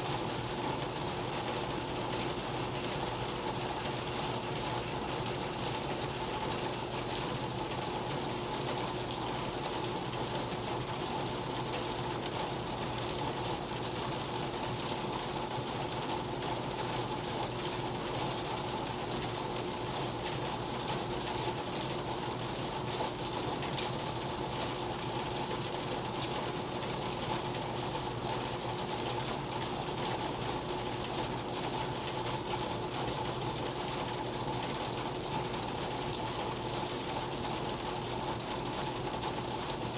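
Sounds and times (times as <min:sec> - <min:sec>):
rain falling on hut: 0:00.0 - 0:39.9.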